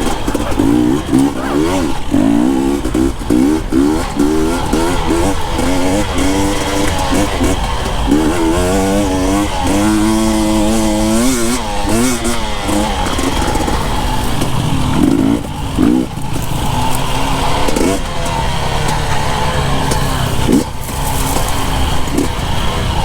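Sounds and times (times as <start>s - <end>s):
dirt bike engine revving: 0.0s - 23.0s
wind and riding noise: 0.0s - 23.0s.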